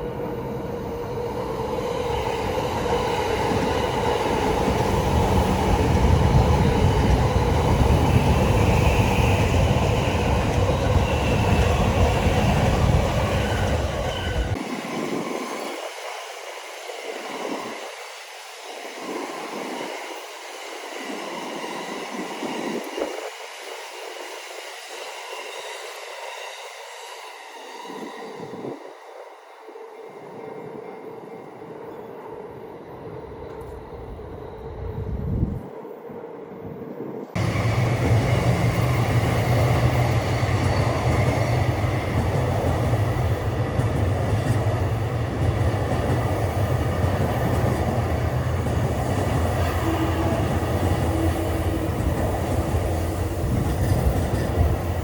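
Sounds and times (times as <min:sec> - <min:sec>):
electric train rumbling past: 0:00.0 - 0:55.0.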